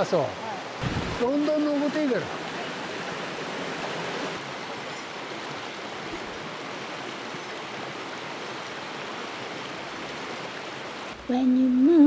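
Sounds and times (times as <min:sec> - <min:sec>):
stream rushing over rocks: 0:00.0 - 0:11.8.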